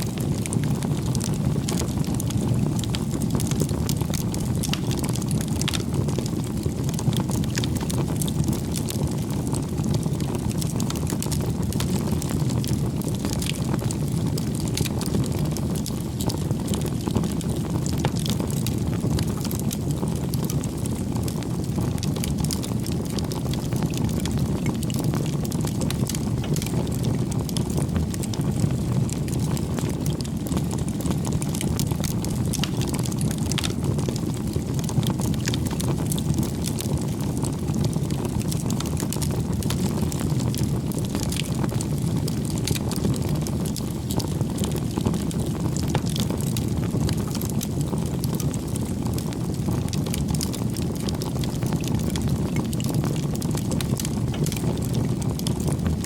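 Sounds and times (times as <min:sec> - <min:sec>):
burning wood crackling: 0:00.0 - 0:56.0
low rush of flame: 0:00.0 - 0:56.0.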